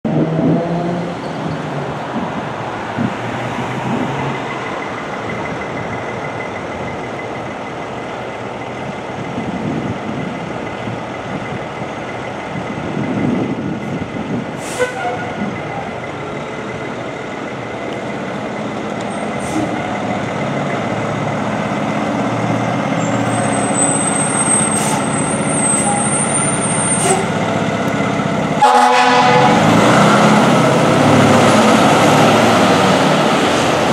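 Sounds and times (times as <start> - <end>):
diesel engine running: 3.8 - 33.9.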